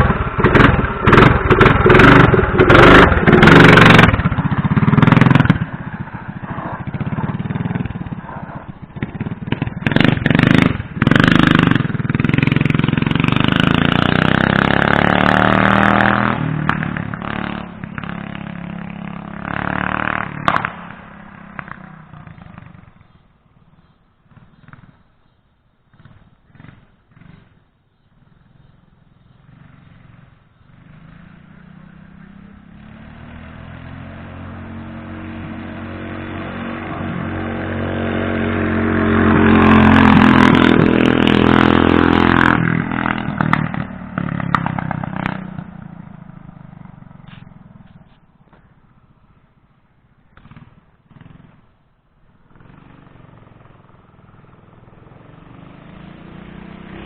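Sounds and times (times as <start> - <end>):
small motorbike engine passing: 0.0 - 57.0.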